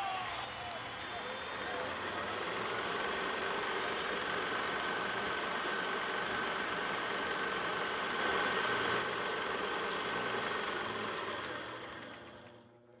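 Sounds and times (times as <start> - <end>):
engine-like running noise: 0.0 - 12.6.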